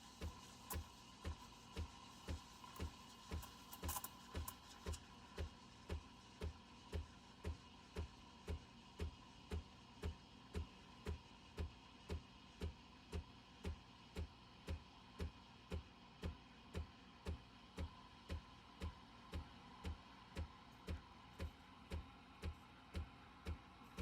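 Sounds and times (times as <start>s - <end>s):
soft low thumping beat: 0.1s - 24.0s.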